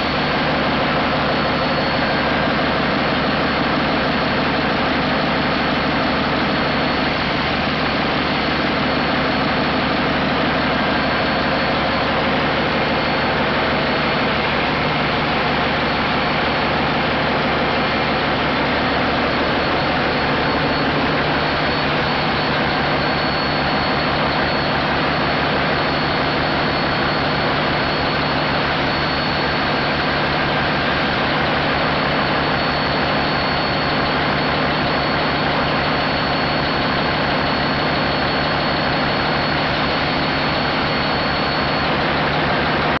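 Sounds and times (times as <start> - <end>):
high-pitched whine: 0.0 - 42.9
diesel engine running: 0.0 - 43.0.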